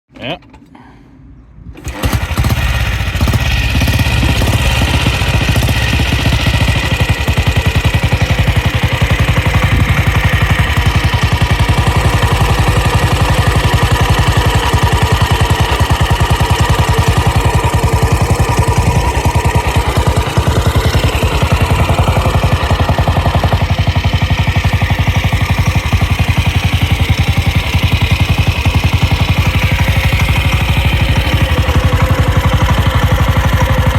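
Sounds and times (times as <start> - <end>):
motorcycle engine idling: 1.8 - 33.9.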